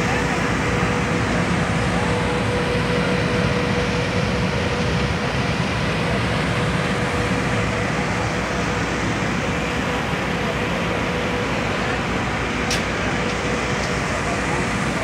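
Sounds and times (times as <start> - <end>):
ground equipment machine drone: 0.0 - 15.0.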